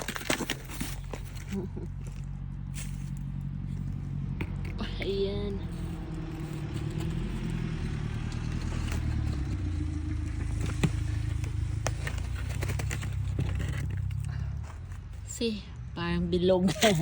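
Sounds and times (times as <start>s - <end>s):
sharp clicks and crunches: 0.0s - 15.4s
vehicle engine running: 0.0s - 17.0s.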